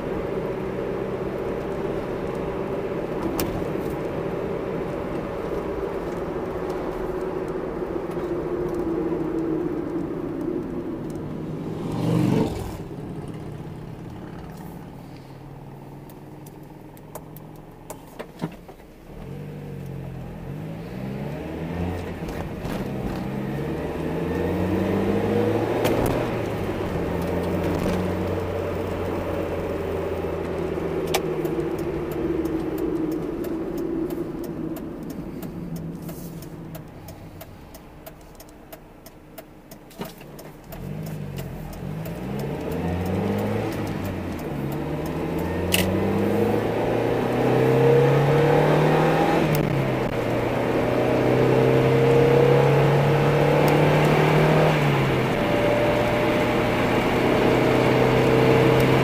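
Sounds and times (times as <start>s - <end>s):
car engine: 0.0s - 59.0s
road noise inside car: 0.0s - 59.0s.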